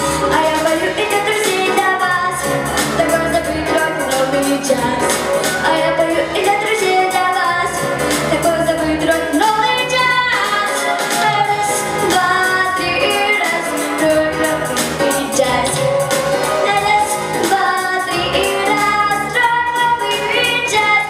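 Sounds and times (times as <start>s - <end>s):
girl singing into a microphone: 0.0s - 21.0s
pop backing track with beat: 0.0s - 21.0s.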